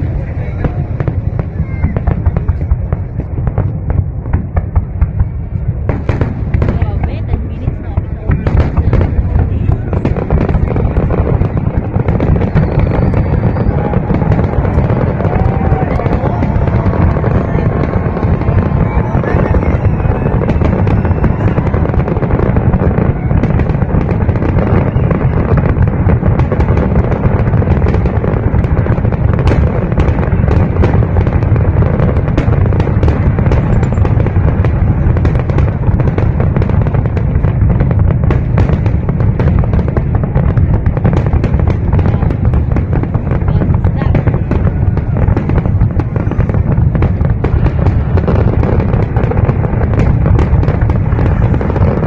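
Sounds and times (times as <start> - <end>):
fireworks booming: 0.0 - 52.0
fireworks crackling and popping: 0.0 - 52.0.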